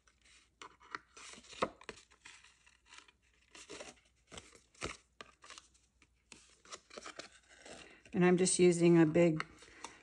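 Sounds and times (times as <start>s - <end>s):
card stock rustling and scraping: 0.0s - 8.1s.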